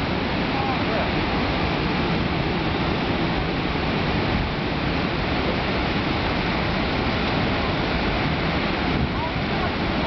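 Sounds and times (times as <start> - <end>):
water gushing from dam gates: 0.0 - 10.0.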